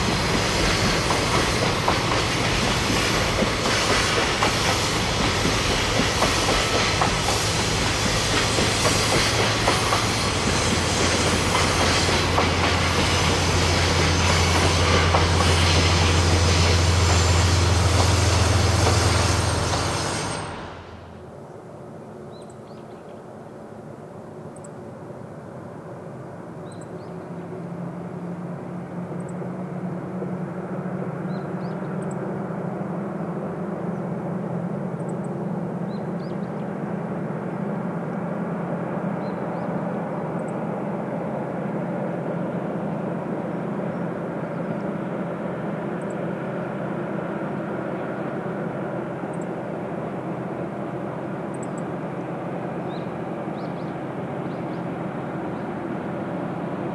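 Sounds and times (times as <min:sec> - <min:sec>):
distant diesel train engine droning: 0:00.0 - 0:22.7, 0:23.3 - 0:56.9.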